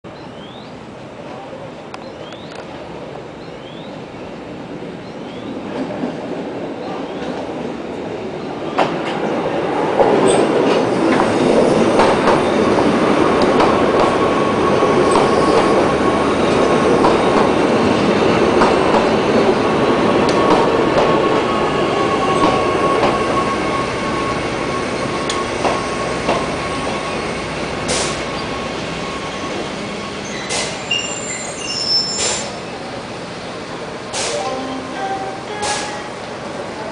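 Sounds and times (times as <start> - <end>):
electric train rumbling past: 0.2 - 36.9.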